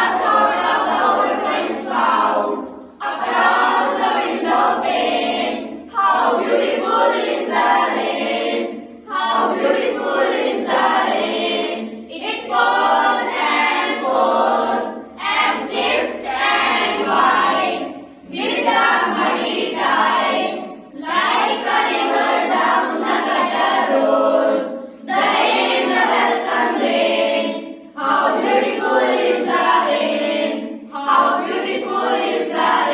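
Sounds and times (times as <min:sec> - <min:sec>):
children chanting in unison: 0:00.0 - 0:32.9.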